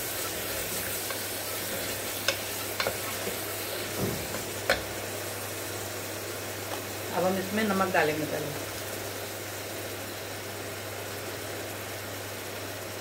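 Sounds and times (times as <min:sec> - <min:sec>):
masala sizzling in a pot: 0:00.0 - 0:13.0.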